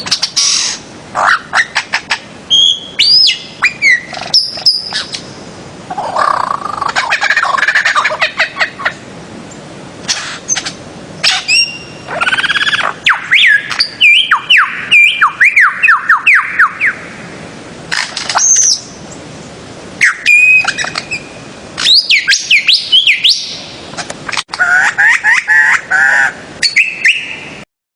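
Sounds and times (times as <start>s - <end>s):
bird calling in rapid bursts: 0.0s - 9.0s, 10.0s - 17.3s, 17.9s - 19.1s, 20.0s - 27.6s.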